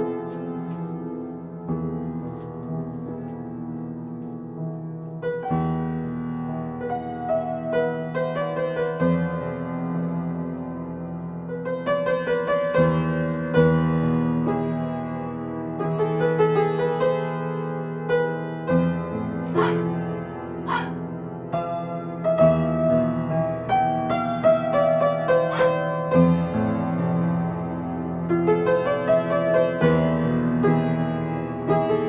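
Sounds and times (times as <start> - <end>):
solo piano chords: 0.0 - 32.0.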